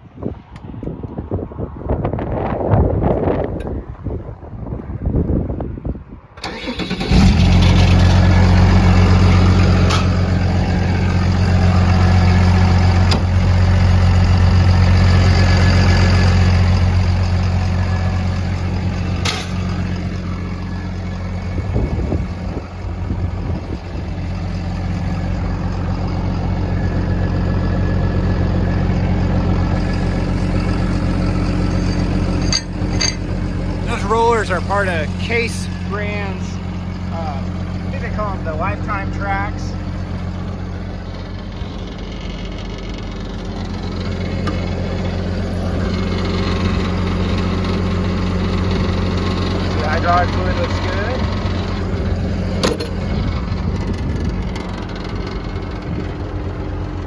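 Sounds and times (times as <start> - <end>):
diesel engine idling: 6.4 - 57.0.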